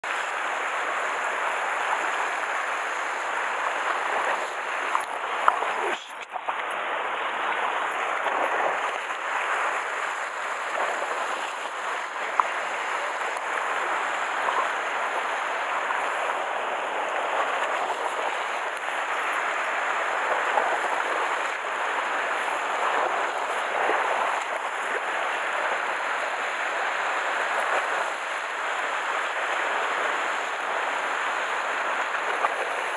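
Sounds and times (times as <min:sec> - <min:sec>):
sea surf on rocky shore: 0:00.0 - 0:32.9.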